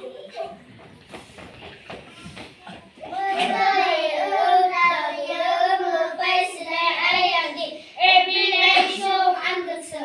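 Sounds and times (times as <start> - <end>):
children singing: 1.6 - 10.0.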